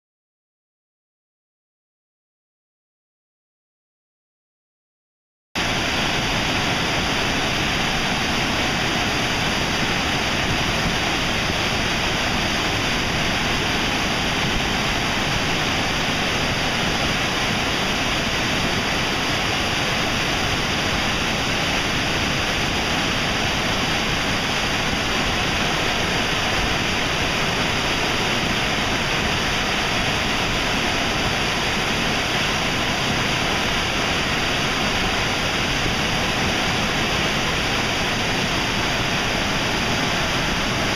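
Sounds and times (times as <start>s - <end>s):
waterfall rushing: 5.6s - 40.9s.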